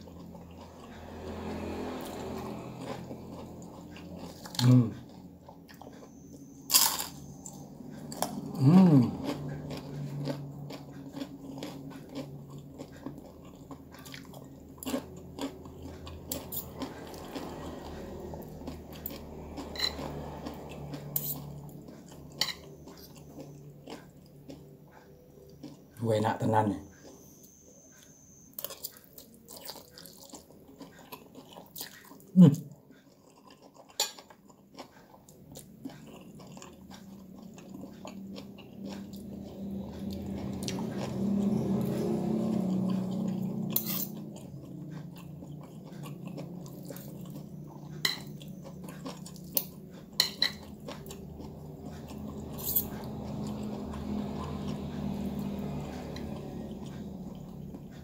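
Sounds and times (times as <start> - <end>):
low hum: 0.0 - 26.0, 35.3 - 58.0
person chewing noodles: 0.0 - 58.0.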